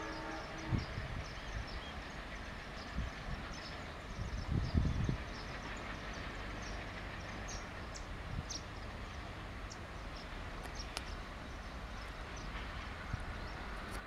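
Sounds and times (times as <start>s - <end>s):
diesel locomotives rumbling: 0.0s - 14.0s.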